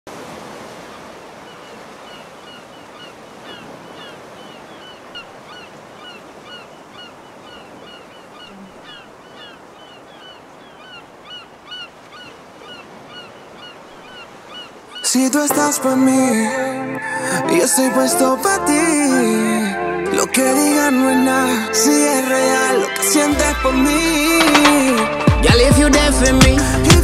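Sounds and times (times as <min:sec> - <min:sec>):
ocean surf washing: 0:00.1 - 0:27.0
birds chirping: 0:00.8 - 0:27.0.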